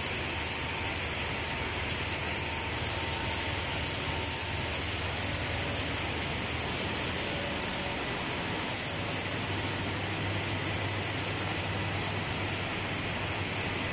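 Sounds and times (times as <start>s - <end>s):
processing machinery running: 0.0s - 13.9s.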